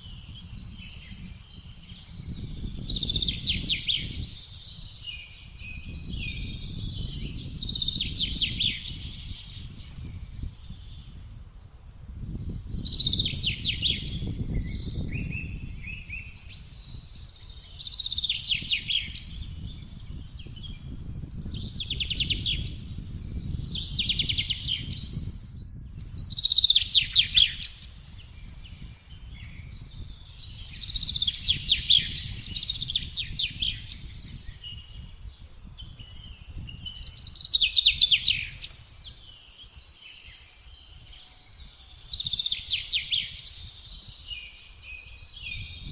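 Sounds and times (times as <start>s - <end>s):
songbird trilling: 0.0s - 11.2s, 12.5s - 45.9s
low rush of wind: 0.0s - 45.9s.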